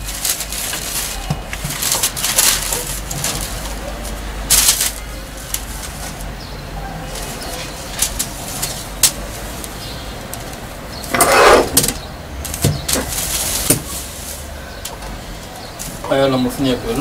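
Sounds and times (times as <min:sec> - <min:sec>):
paper and fabric rustling: 0:00.0 - 0:14.6.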